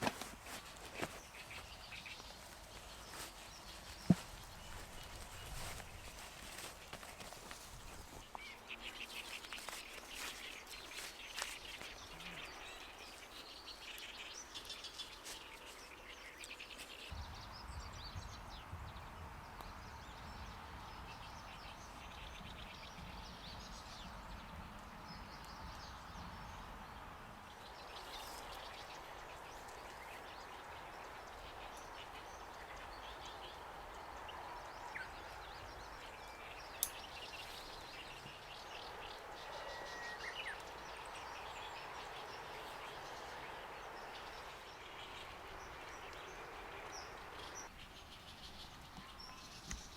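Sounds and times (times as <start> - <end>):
birds chirping: 0.0 - 49.9
outdoor background noise: 0.0 - 49.9.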